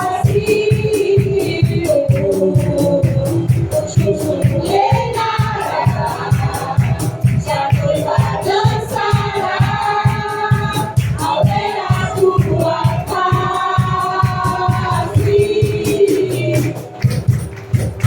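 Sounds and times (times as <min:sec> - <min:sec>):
group of voices singing: 0:00.0 - 0:17.4
steady drum beat: 0:00.0 - 0:18.0
worship band playing: 0:00.0 - 0:18.0.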